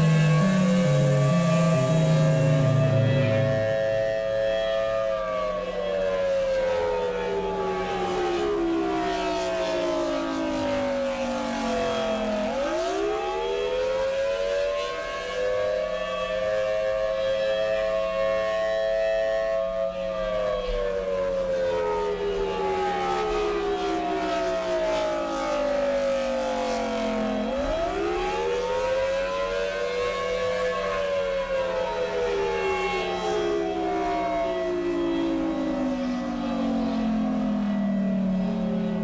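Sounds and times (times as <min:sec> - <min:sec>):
warning siren wailing: 0:00.0 - 0:39.0.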